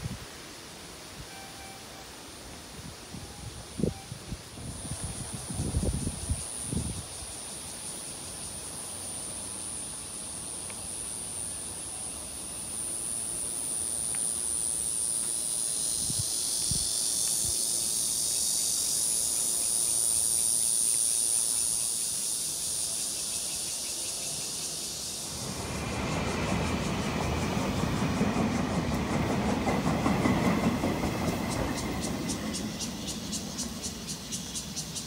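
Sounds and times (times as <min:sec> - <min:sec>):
insects singing: 0:03.2 - 0:35.0.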